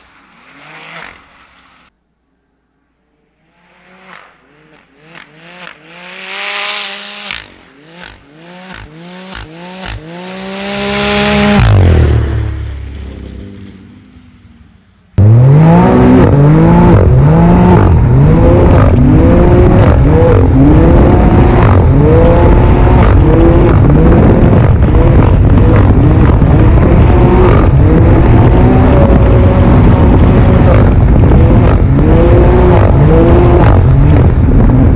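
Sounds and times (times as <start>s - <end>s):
snowmobile engine: 0.0s - 1.9s, 3.0s - 14.6s, 15.2s - 34.9s.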